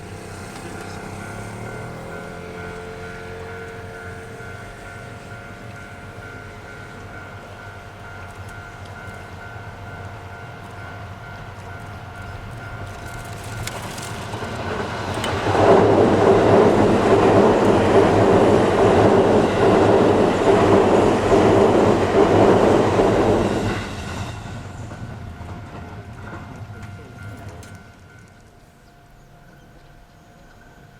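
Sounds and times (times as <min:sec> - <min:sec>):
electric train passing: 0:00.0 - 0:30.9
wheels rumbling on rails: 0:00.0 - 0:30.9.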